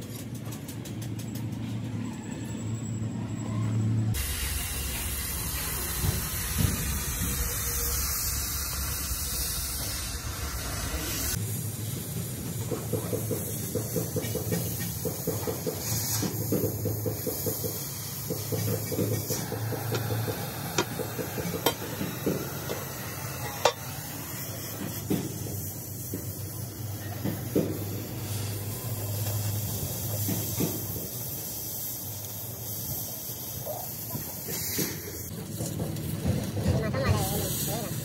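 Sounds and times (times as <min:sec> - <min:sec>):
arc welding crackling hiss: 0:04.1 - 0:38.0.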